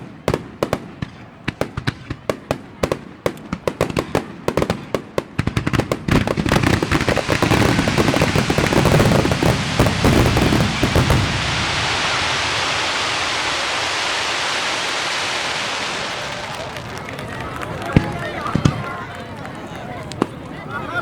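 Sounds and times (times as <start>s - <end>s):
fireworks bangs and pops: 0.0s - 20.5s.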